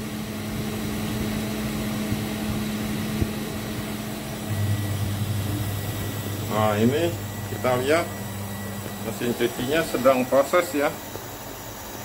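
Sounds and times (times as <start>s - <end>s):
deeper machine hum: 0.0s - 12.0s
inverter electrical hum: 0.0s - 12.0s.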